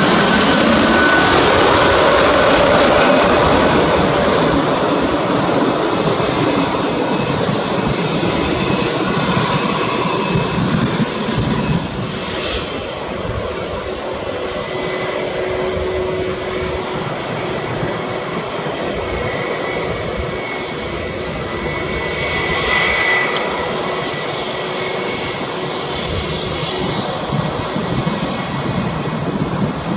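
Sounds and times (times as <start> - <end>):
jet engines roaring: 0.0 - 29.9
jet engines whining: 0.0 - 29.9.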